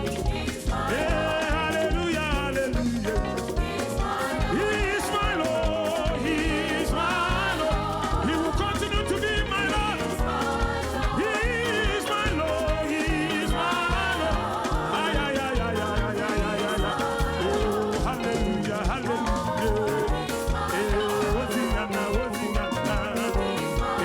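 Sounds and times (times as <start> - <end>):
upbeat gospel praise music: 0.0 - 24.0.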